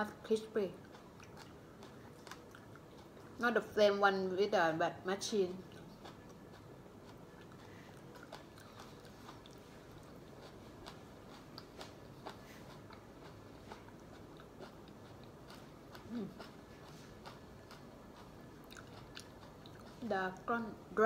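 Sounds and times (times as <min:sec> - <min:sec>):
person chewing food: 0:00.7 - 0:03.4, 0:05.5 - 0:20.5.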